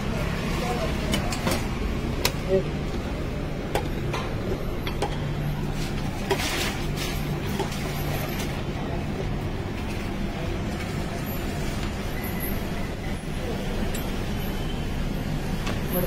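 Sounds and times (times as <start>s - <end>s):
background traffic hum: 0.0s - 16.0s.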